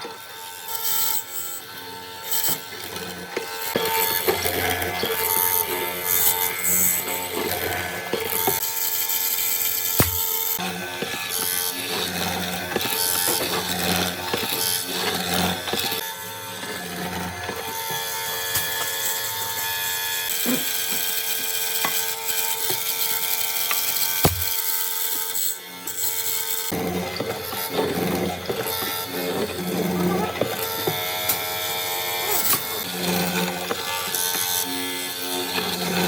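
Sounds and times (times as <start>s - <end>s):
woodworking tool on wood: 0.0s - 36.0s.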